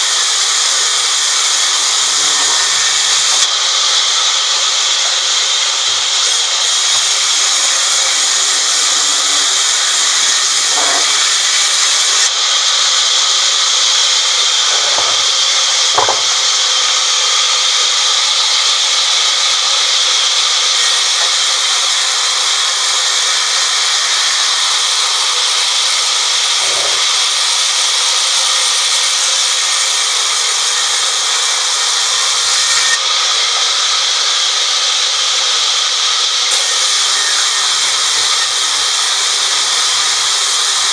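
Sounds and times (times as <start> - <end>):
band saw cutting wood: 0.0 - 40.9.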